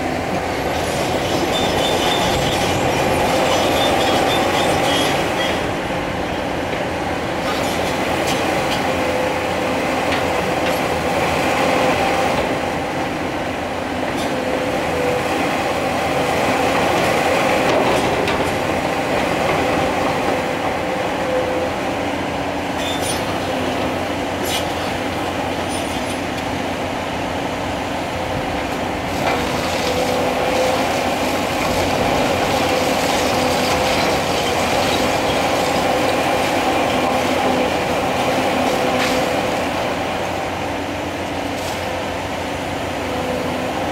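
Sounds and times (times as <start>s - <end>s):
excavator engine and hydraulics whine: 0.0s - 43.9s.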